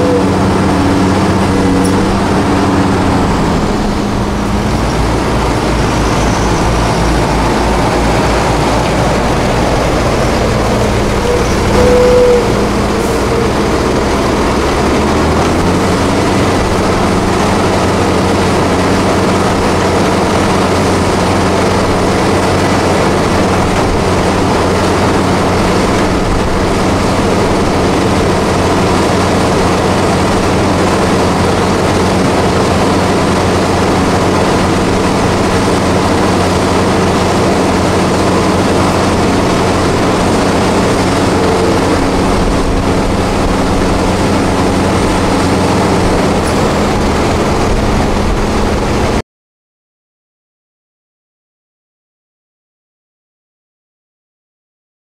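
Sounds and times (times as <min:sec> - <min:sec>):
dense rushing noise: 0:00.0 - 0:49.2
diesel engine drone: 0:00.0 - 0:49.2.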